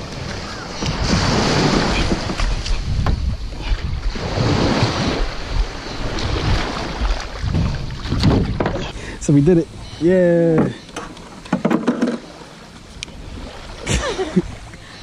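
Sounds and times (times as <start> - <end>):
wind rumbling on microphone: 0.0 - 10.0, 10.6 - 14.8
surf washing around a kayak: 0.0 - 15.0.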